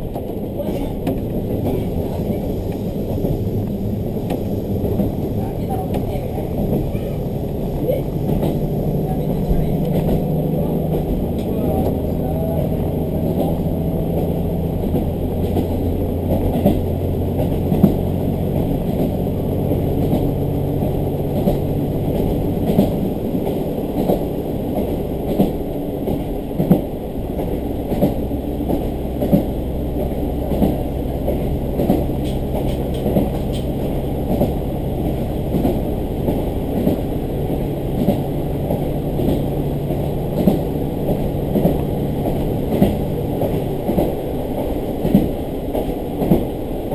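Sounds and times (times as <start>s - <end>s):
rail joint clicks: 0.0s - 46.9s
train wheels rumbling: 0.0s - 46.9s
diesel engine drone: 0.9s - 44.6s.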